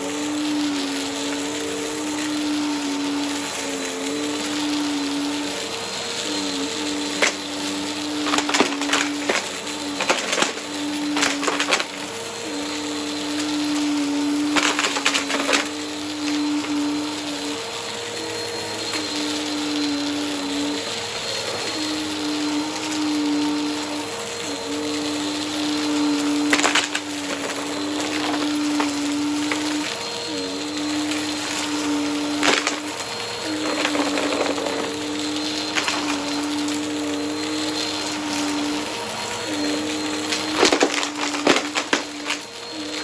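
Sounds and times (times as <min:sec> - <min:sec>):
vacuum cleaner running: 0:00.0 - 0:43.0
vacuum sucking up crunchy debris: 0:00.0 - 0:43.0.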